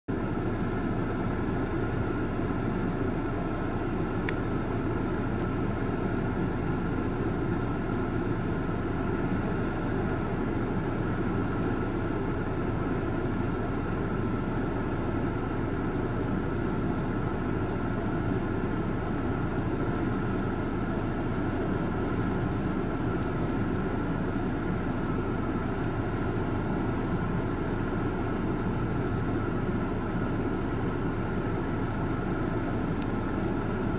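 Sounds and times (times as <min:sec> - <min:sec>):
faint whine: 0:00.1 - 0:33.9.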